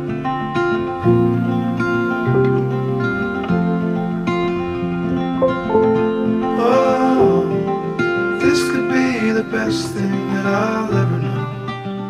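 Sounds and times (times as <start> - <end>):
acoustic guitar song: 0.0 - 12.0.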